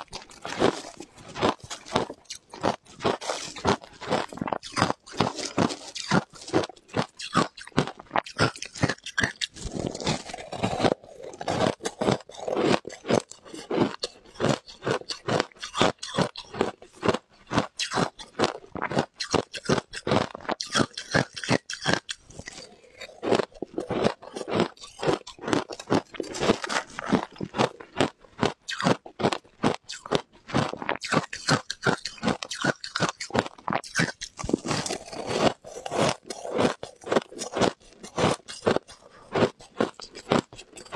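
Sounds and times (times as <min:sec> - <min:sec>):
person chewing ice crunches: 0:00.0 - 0:40.9.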